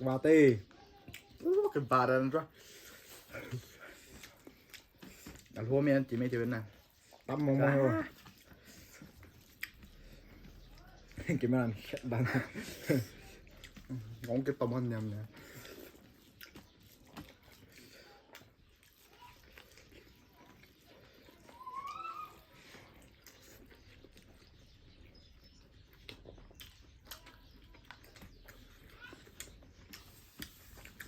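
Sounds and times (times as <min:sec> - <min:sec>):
chewing with small smacks: 0:00.2 - 0:31.0.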